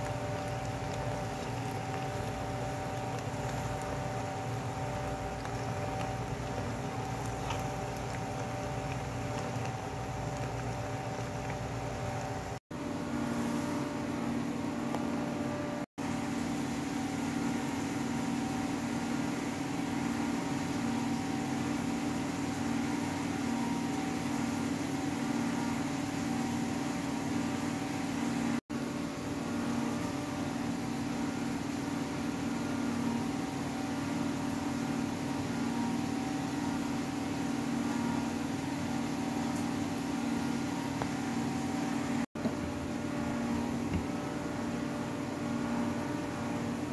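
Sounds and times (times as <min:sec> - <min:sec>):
machine hum with tones: 0:00.0 - 0:46.9.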